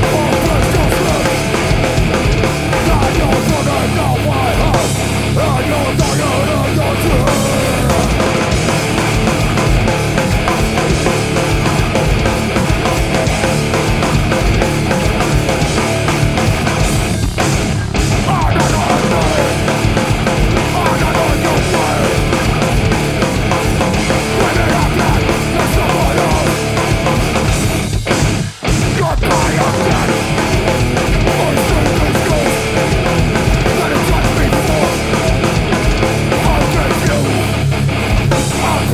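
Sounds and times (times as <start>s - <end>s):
rapid drumming: 0.0s - 38.9s
rock band playing: 0.0s - 38.9s.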